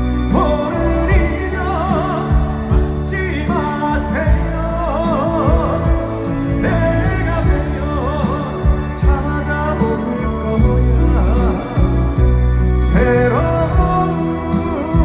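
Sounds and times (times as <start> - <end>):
band accompaniment: 0.0 - 15.0
man singing with vibrato: 0.0 - 15.0.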